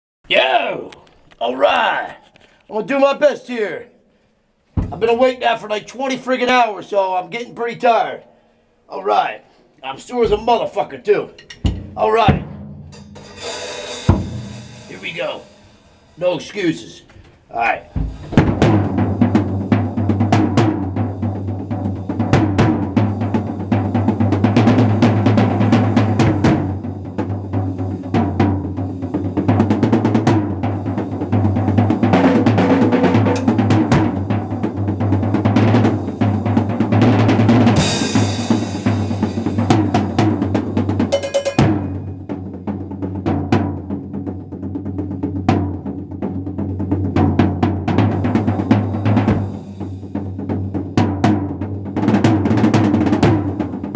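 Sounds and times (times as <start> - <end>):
fast drum solo: 4.8 - 6.3, 9.9 - 53.9.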